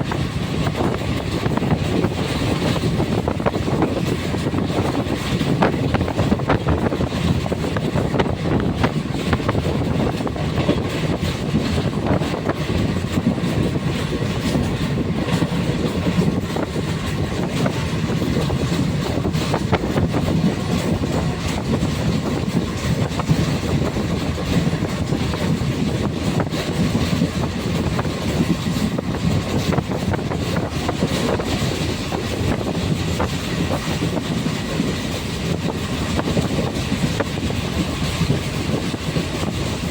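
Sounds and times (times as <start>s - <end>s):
train rumbling on track: 0.0s - 39.9s
train wheels clicking: 0.0s - 39.9s.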